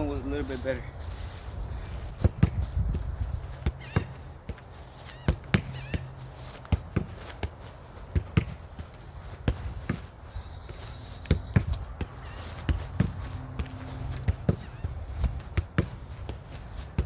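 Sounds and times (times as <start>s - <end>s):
soccer ball thuds from kicks: 0.7s - 17.0s.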